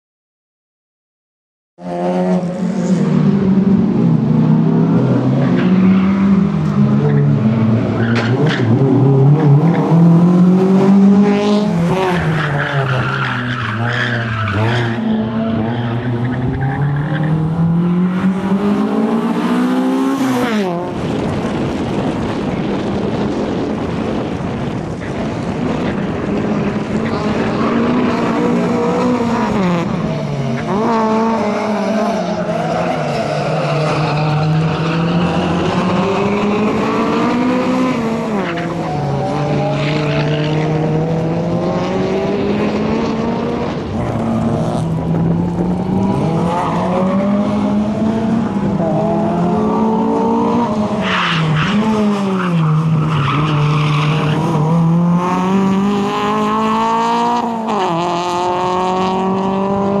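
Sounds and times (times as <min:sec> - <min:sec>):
car engine revving: 0:01.8 - 1:00.0.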